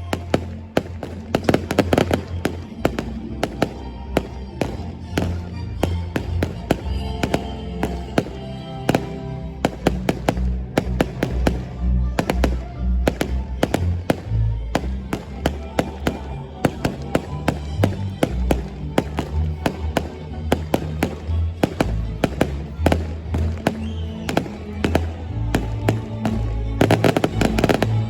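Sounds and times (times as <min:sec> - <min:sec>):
fireworks cracking and banging: 0:00.0 - 0:28.0
music with deep bass: 0:00.0 - 0:28.0.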